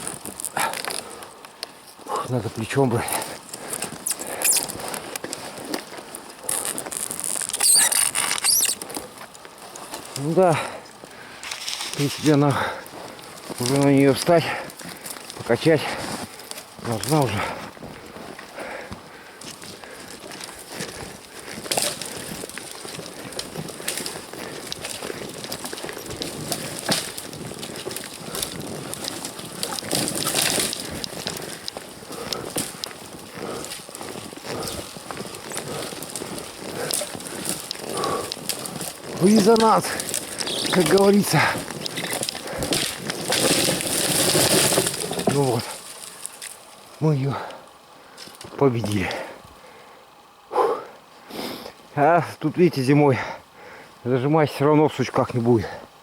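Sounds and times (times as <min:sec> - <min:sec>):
frozen snow crunching and squeaking: 0:00.0 - 0:01.2, 0:01.8 - 0:18.6, 0:19.4 - 0:47.3
fir branches rustling and scraping: 0:00.0 - 0:49.2.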